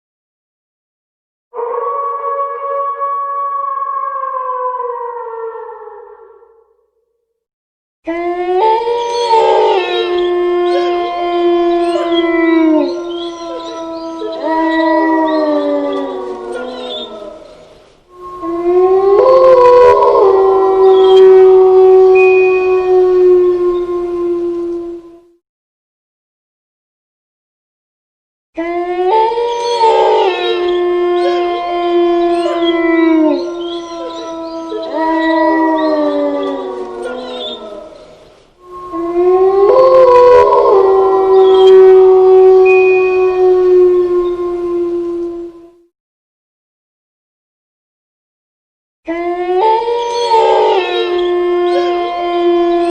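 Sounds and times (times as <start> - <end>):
wolves howling: 1.6 - 6.6, 8.1 - 25.4, 28.6 - 45.8, 49.1 - 52.9.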